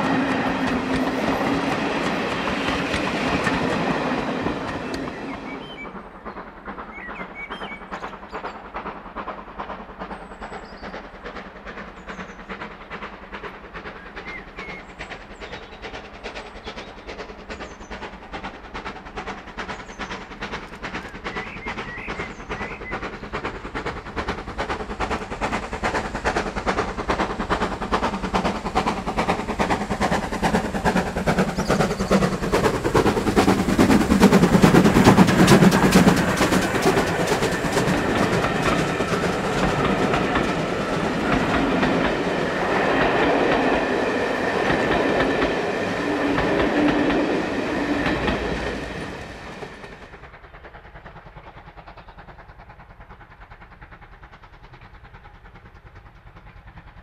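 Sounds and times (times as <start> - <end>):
steam train rhythmic beating: 0.0 - 57.0.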